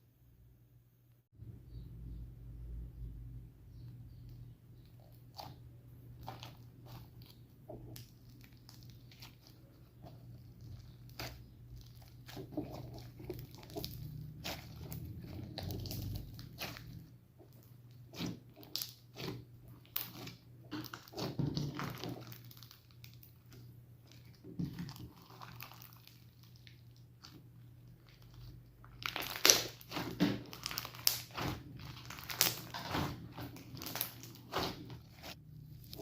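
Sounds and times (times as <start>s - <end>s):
slime crackling and popping: 6.2s - 36.0s.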